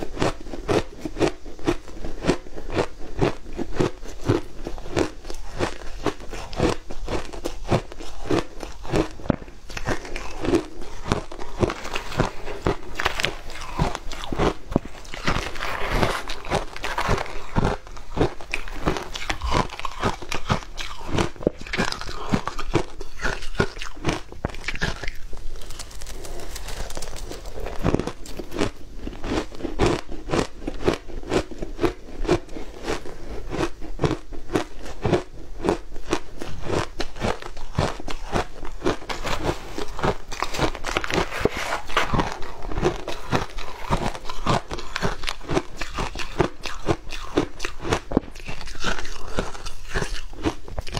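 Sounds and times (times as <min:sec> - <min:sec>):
crunching shaved ice: 0:00.0 - 0:50.9.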